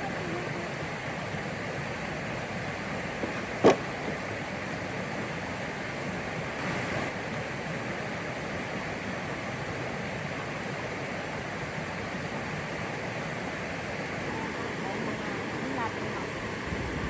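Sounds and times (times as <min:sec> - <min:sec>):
rush of flowing water: 0:00.0 - 0:17.0.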